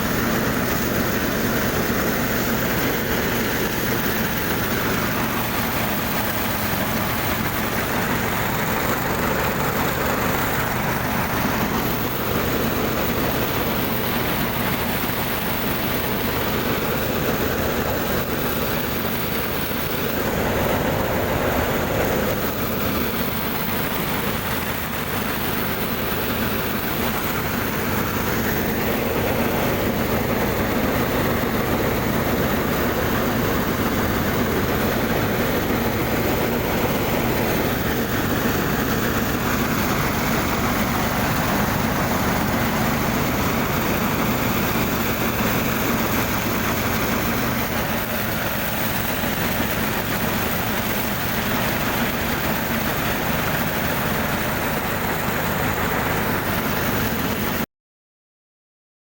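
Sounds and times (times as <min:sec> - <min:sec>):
thresher engine humming: 0:00.0 - 0:57.6.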